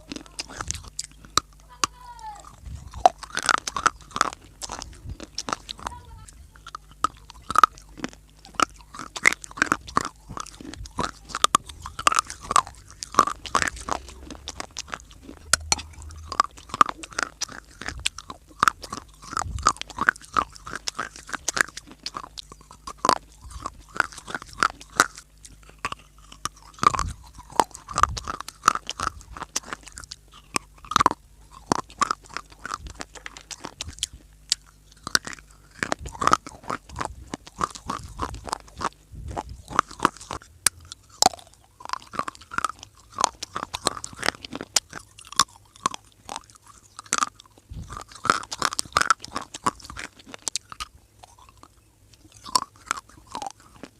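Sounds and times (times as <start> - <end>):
person chewing crunchy clay: 0.0 - 53.9.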